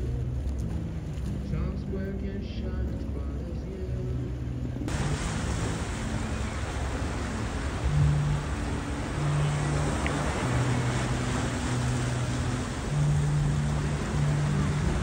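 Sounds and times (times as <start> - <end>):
low sustained music notes: 0.0 - 15.0
river water rushing: 0.0 - 15.0
wind: 0.0 - 15.0.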